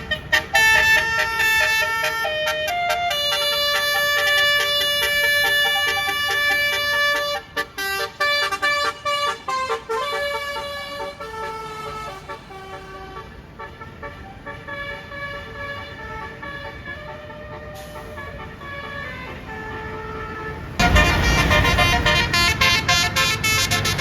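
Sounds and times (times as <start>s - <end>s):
multi-tone air horn playing a tune: 0.0s - 24.0s.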